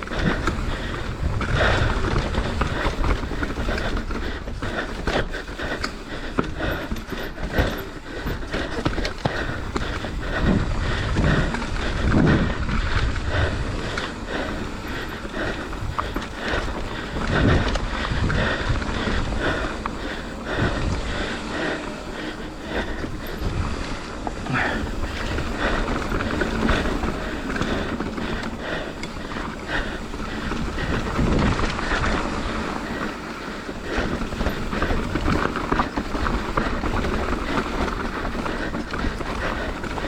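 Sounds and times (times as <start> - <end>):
bike rattling and knocking: 0.0 - 40.0
tyres crunching over dirt: 0.0 - 40.0
wind buffeting microphone: 0.0 - 40.0.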